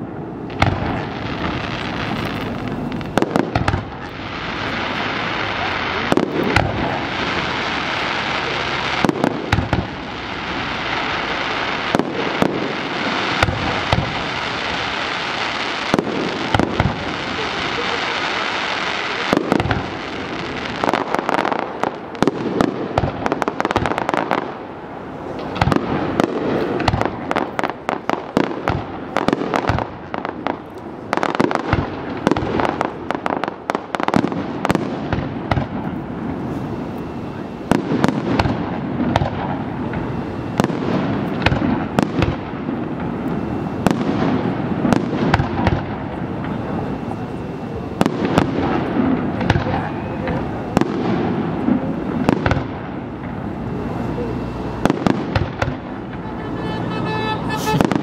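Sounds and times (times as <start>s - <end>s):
continuous noisy wash: 0.0s - 58.0s
fireworks bursting bangs: 0.0s - 58.0s.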